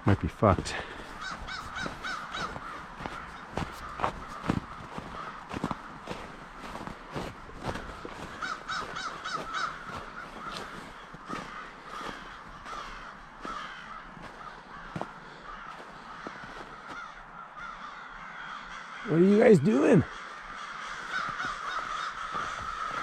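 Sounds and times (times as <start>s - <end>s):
crows cawing: 0.0s - 23.0s.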